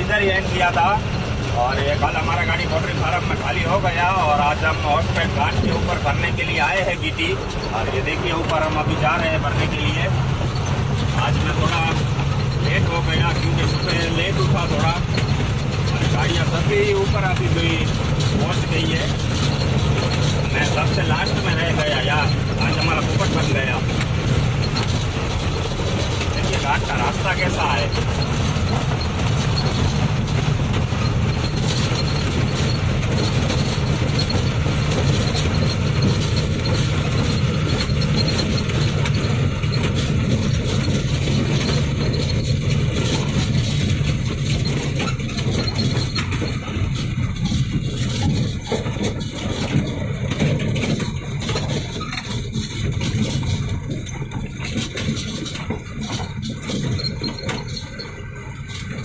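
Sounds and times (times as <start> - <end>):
diesel truck engine under load: 0.0 - 59.0
knocks and rattles: 0.0 - 59.0.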